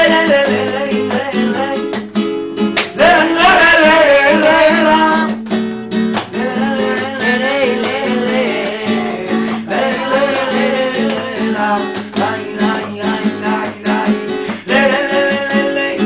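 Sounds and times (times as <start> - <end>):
flamenco guitar: 0.0 - 16.0
man singing flamenco: 0.0 - 16.0.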